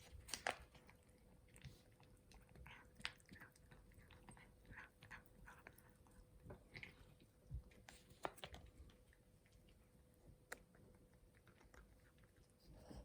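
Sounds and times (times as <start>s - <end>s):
cat crunching treats: 0.0s - 12.6s.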